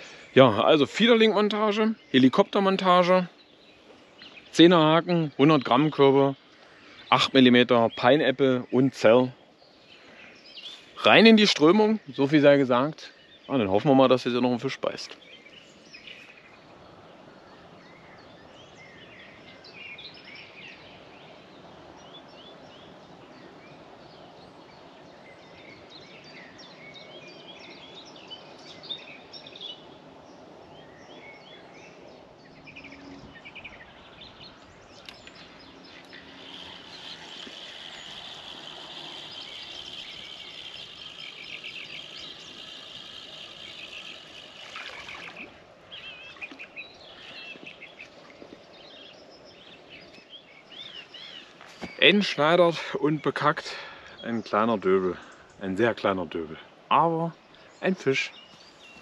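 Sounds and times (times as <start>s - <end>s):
outdoor background noise: 0.0s - 59.0s
songbirds chirping and singing: 0.0s - 59.0s.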